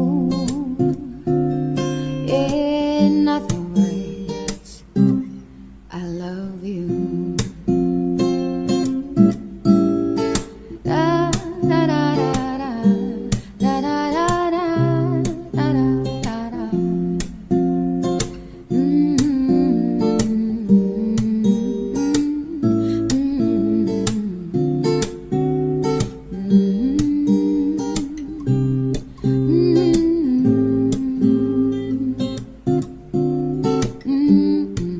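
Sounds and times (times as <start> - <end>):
acoustic guitar tune: 0.0 - 34.9.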